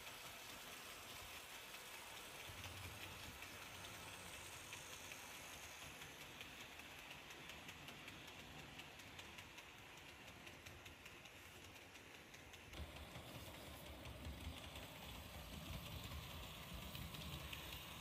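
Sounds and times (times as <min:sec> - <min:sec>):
model train coaches rolling: 0:00.0 - 0:18.0
wheels clicking over rails: 0:00.0 - 0:18.0.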